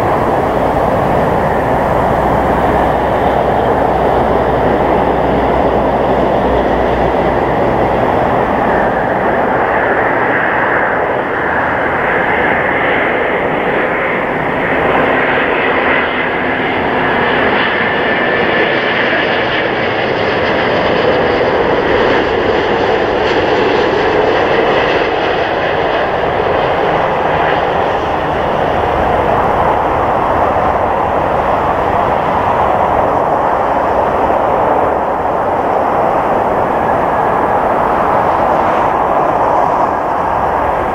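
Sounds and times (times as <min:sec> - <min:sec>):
high fan whine: 0:00.0 - 0:40.9
jet engine rumble: 0:00.0 - 0:40.9.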